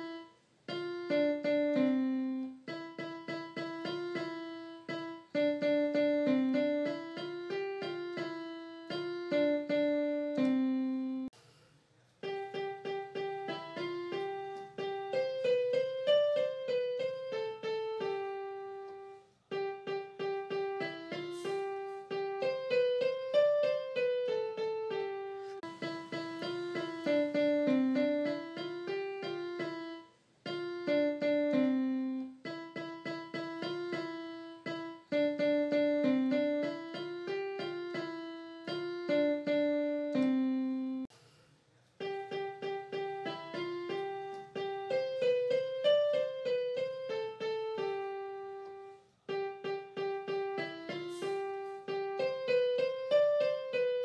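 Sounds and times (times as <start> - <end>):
light keyboard tune: 0.0 - 11.4, 12.2 - 41.1, 42.0 - 54.0.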